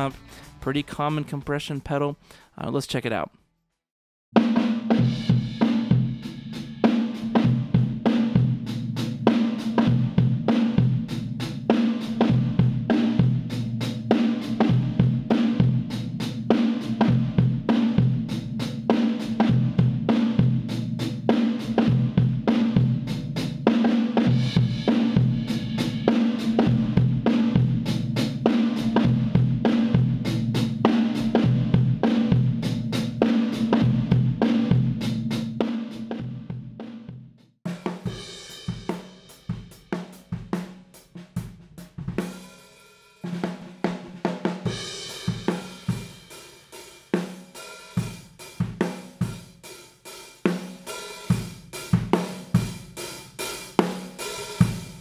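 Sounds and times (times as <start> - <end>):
drum kit playing a beat: 0.0 - 3.2, 4.4 - 55.0.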